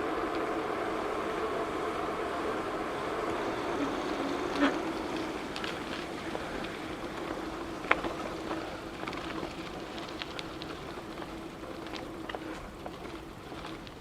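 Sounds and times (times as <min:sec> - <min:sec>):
bicycle tyres rolling on road: 0:00.0 - 0:14.0.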